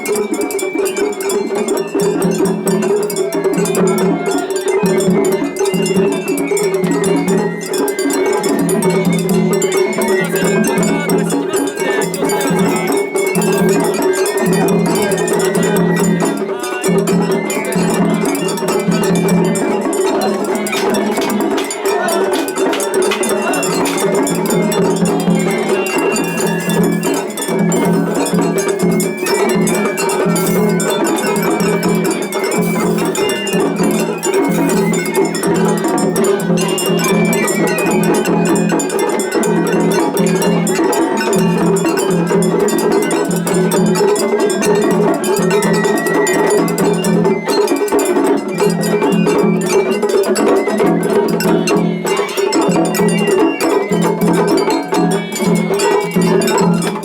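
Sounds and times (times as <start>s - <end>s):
high bamboo flute phrases: 0.0s - 43.2s, 43.9s - 56.7s
drums pulsing rhythm: 0.0s - 57.0s.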